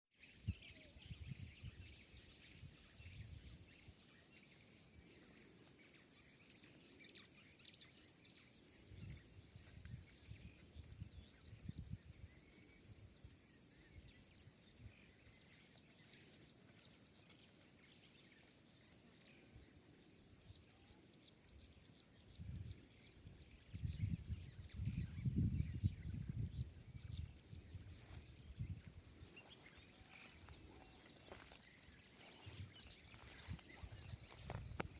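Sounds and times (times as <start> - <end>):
high insect drone: 0.2 - 34.9.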